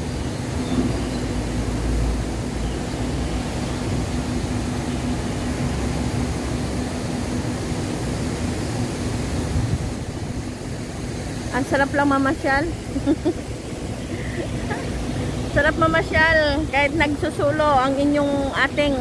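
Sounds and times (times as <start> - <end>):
low machine drone: 0.0 - 19.0
rushing city hum: 0.0 - 19.0.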